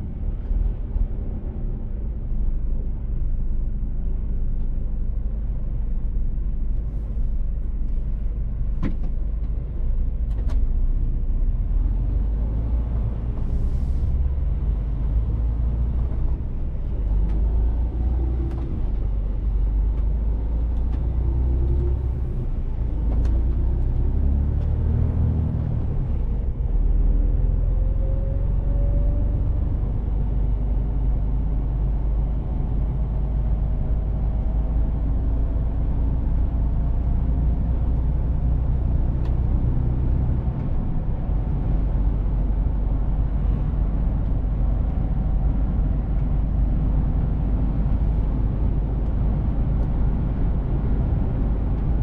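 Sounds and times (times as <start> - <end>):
low road rumble: 0.0 - 52.0
truck diesel engine: 0.0 - 52.0.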